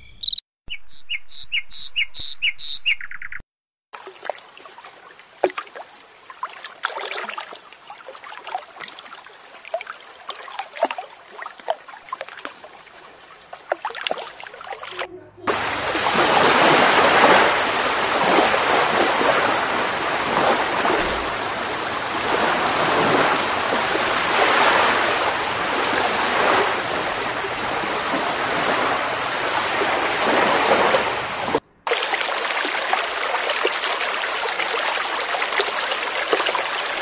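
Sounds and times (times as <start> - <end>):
rushing water-like noise: 4.0 - 37.0.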